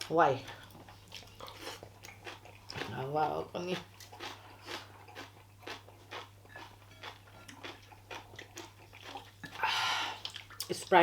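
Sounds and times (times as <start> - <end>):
person chewing food: 0.0 - 10.7.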